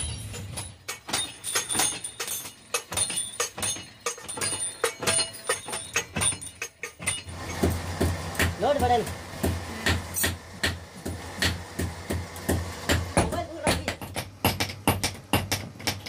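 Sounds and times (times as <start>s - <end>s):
metal clanks and knocks: 0.0s - 16.0s.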